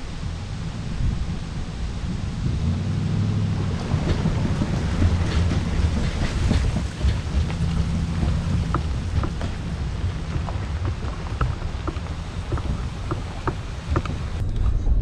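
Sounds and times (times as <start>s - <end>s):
boat and trailer rattles: 0.0s - 15.0s
low engine hum: 0.0s - 15.0s
road rumble: 0.0s - 15.0s
wind buffeting microphone: 0.0s - 15.0s.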